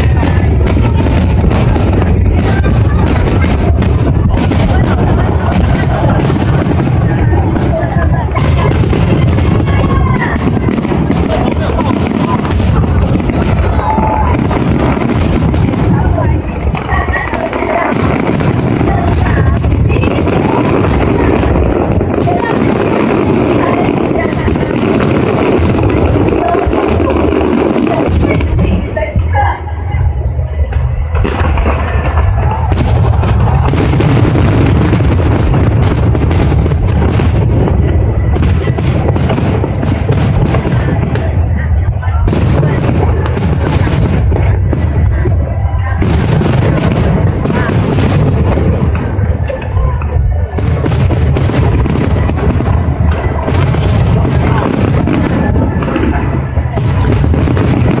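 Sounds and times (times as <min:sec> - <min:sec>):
crowd voices: 0:00.0 - 0:58.0
fireworks booms and crackling: 0:00.0 - 0:58.0
low rumble: 0:00.0 - 0:58.0.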